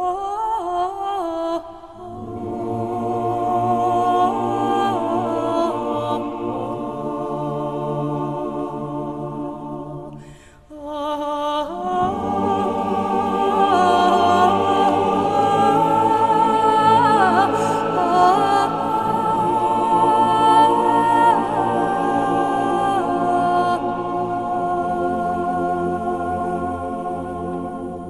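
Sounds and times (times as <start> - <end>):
group of voices singing: 0.0 - 28.0.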